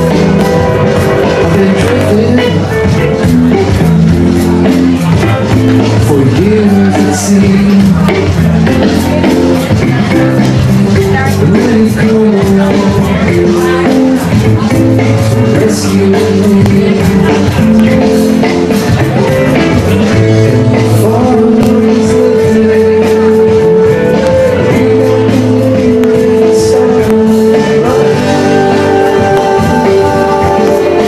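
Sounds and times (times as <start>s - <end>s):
recorded song with singer: 0.0s - 31.0s.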